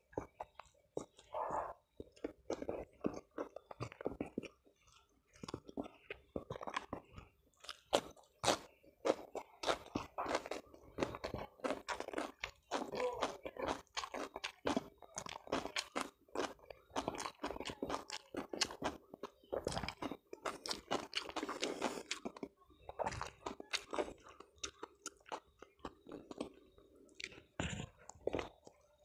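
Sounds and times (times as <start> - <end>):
person chewing and crunching food: 0.0 - 29.0.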